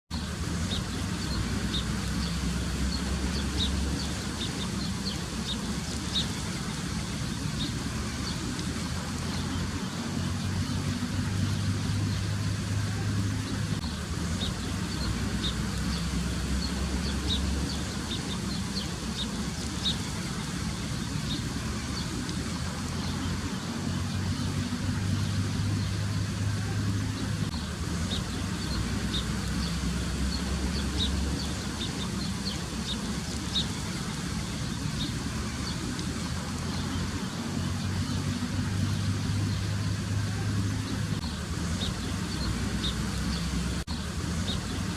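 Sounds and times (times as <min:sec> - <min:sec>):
low engine rumble: 0:00.1 - 0:44.9.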